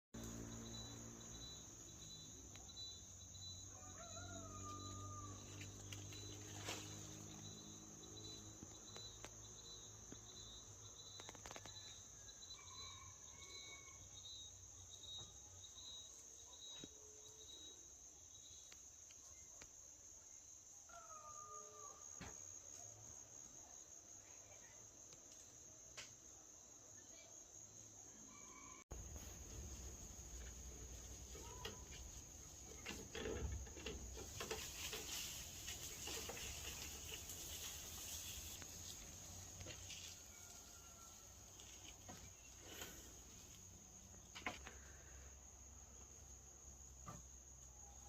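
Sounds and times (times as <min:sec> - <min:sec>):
insects chirring: 0:00.2 - 0:48.0.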